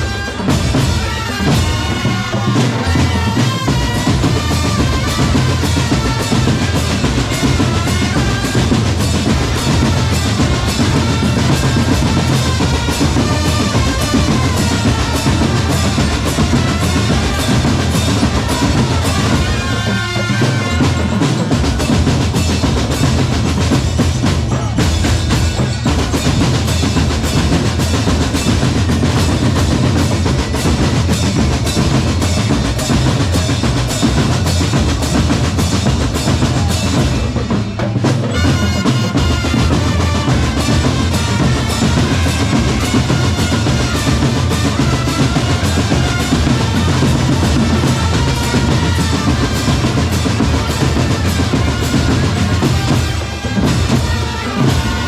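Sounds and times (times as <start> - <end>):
bass and snare drums: 0.0 - 55.0.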